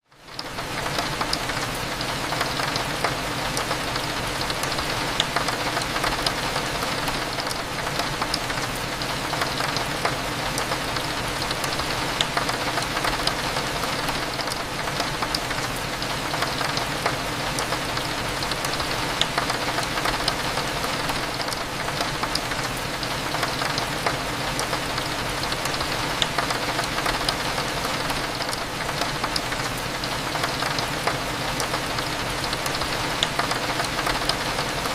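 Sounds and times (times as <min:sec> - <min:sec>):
rain on a window: 0:00.0 - 0:34.9.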